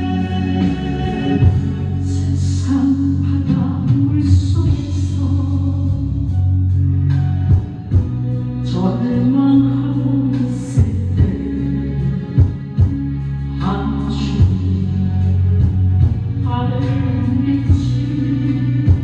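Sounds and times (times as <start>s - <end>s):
woman singing into a microphone: 0.0s - 6.5s, 8.6s - 12.9s, 13.6s - 15.7s, 16.4s - 19.0s
instrumental accompaniment: 0.0s - 19.0s.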